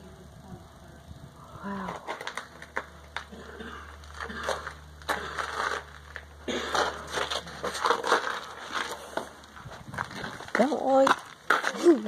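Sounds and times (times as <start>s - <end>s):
footsteps crunching on gravel: 2.0s - 12.0s.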